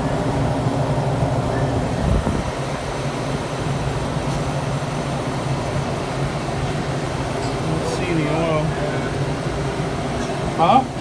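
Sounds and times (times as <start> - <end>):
refrigeration fans whirring: 0.0 - 11.0.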